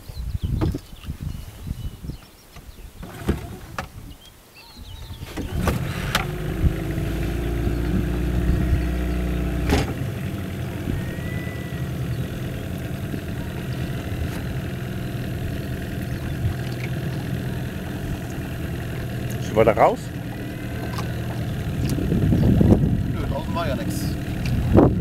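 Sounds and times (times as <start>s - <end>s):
outboard motor running: 3.0s - 3.9s, 5.3s - 25.0s.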